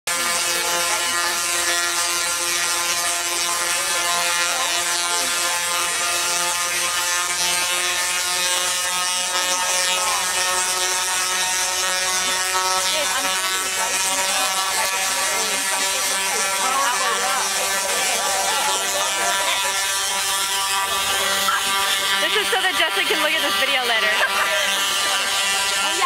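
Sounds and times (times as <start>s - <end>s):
electrical buzz with crackle: 0.1s - 26.0s.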